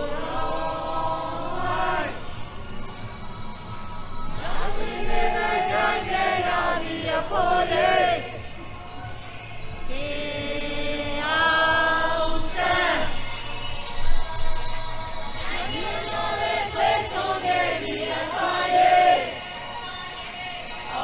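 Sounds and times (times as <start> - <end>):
group of voices singing: 0.0 - 2.5, 3.6 - 21.0.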